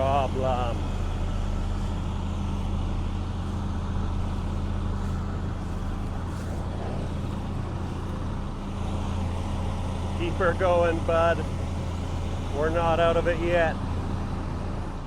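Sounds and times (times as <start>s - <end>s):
vehicle engine droning under load: 0.0s - 15.0s.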